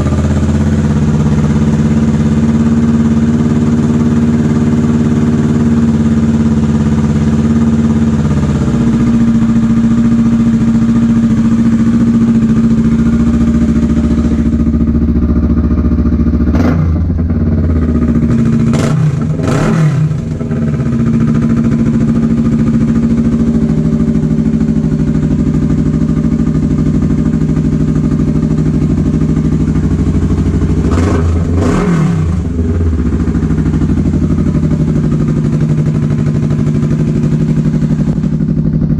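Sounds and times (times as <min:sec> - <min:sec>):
motorcycle engine idling: 0:00.0 - 0:38.9
engine throttle blips: 0:06.3 - 0:38.9.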